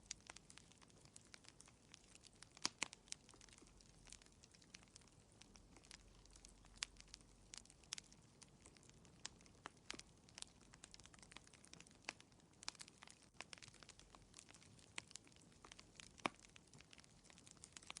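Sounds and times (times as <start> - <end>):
soft low hiss: 0.0 - 18.0
wood fire crackling: 0.0 - 18.0.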